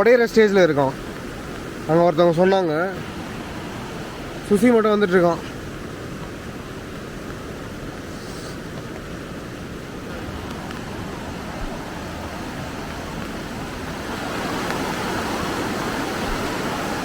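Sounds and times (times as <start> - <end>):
fast-flowing river water rushing: 0.0 - 17.0.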